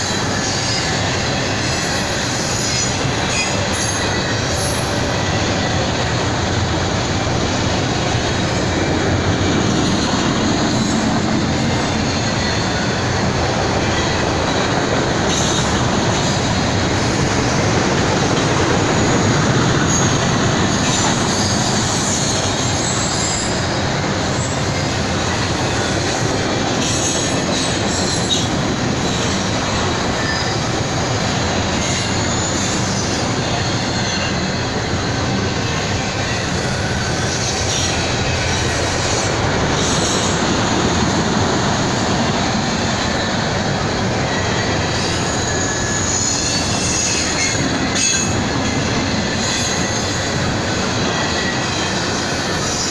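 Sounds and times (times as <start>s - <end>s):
high wheel squeal: 0.0s - 52.9s
train wheels rumbling on rails: 0.0s - 52.9s.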